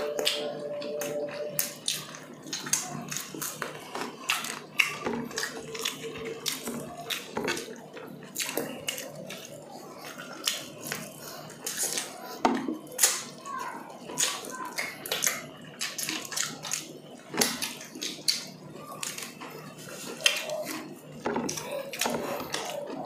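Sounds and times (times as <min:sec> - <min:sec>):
chewing and lip-smacking: 0:00.0 - 0:23.0.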